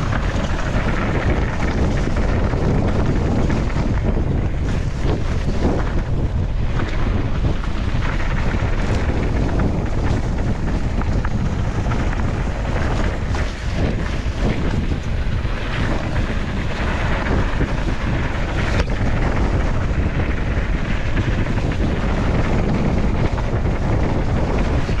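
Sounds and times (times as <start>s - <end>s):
bike rattling: 0.0s - 25.0s
tyres on dirt trail: 0.0s - 25.0s
wind buffeting microphone: 0.0s - 25.0s.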